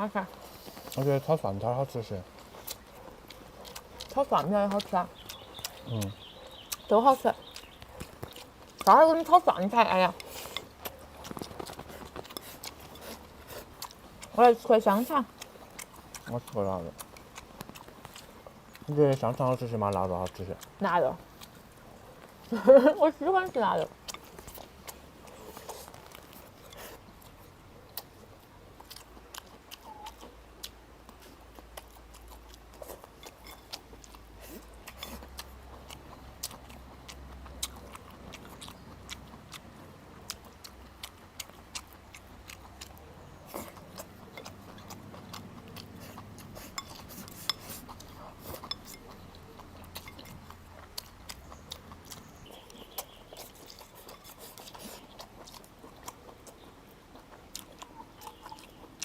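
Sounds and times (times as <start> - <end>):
chewing and biting: 0.0 - 59.0.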